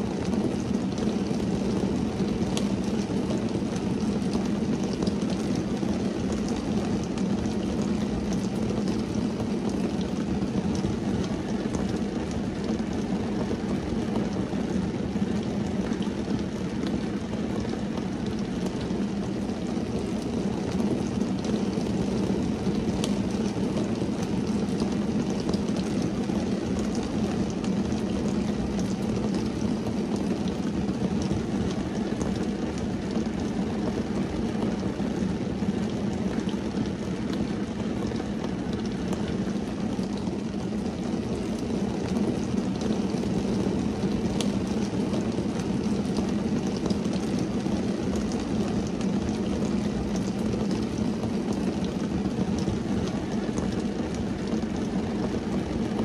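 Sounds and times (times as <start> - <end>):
rain drumming on car roof: 0.0 - 56.0.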